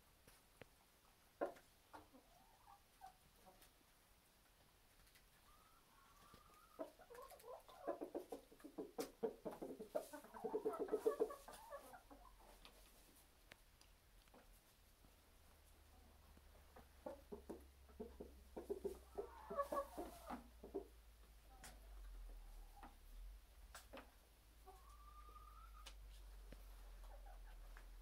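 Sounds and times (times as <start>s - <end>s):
chickens clucking: 1.1s - 4.0s, 4.8s - 13.2s, 14.2s - 28.0s.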